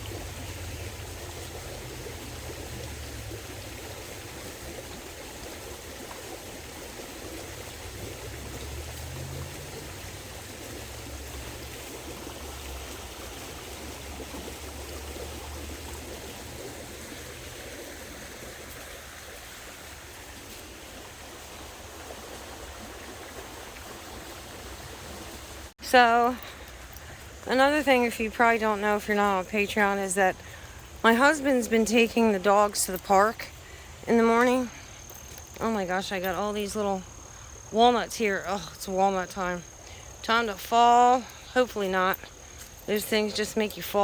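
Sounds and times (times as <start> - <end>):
creek water rushing: 0.0 - 44.0.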